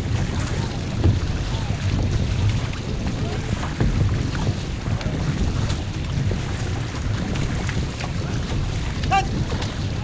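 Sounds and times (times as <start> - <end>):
paddle strokes splashing: 0.0 - 10.0
water rushing and splashing: 0.0 - 10.0
wind buffeting microphone: 0.0 - 10.0.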